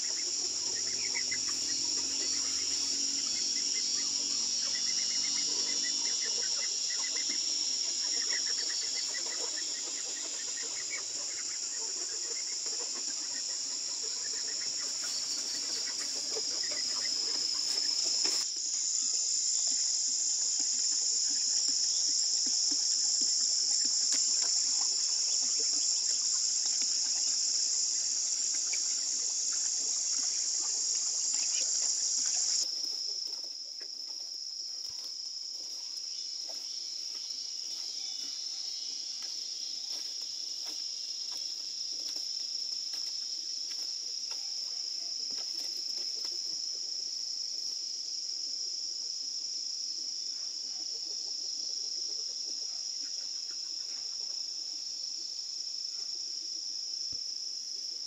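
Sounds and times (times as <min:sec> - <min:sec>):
insects buzzing drone: 0:00.0 - 0:50.4.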